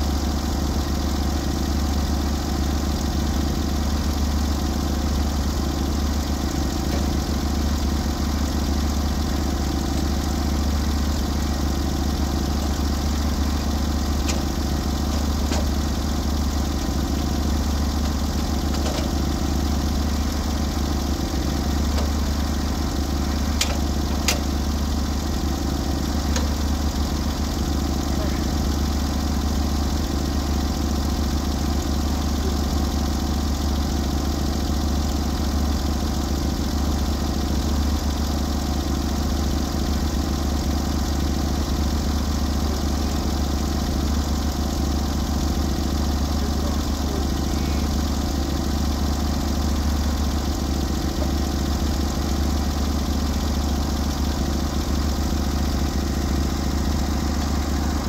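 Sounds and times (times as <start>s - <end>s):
gas engine idling: 0.0s - 58.0s.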